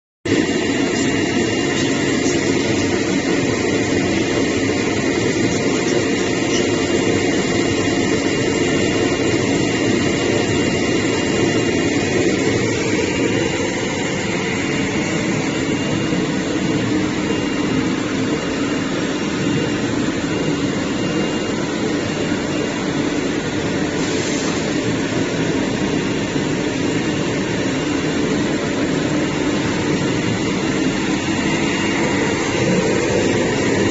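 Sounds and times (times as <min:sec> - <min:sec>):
cutting machine hum and hiss: 0:00.3 - 0:33.9.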